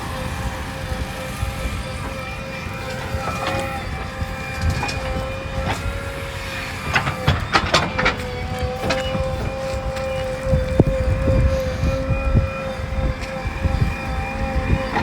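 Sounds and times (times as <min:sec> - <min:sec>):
diesel engine running with a whine: 0:00.0 - 0:15.0.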